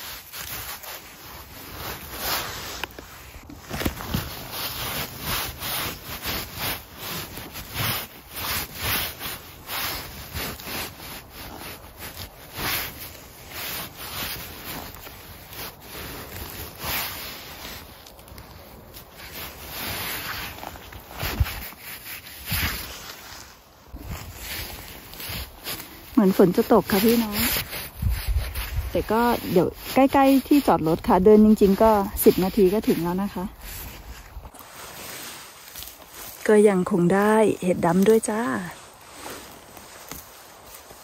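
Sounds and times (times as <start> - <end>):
rustling in moss and grass: 0.0 - 41.0.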